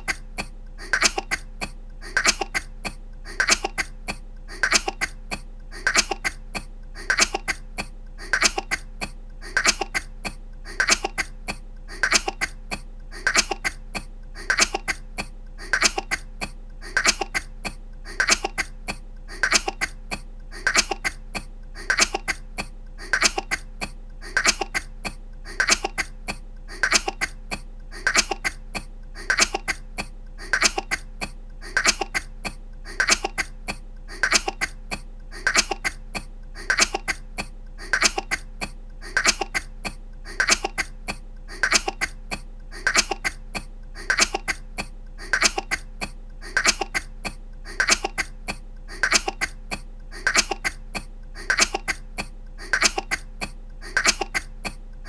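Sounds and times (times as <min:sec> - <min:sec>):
woman coughing: 0:00.0 - 0:54.8.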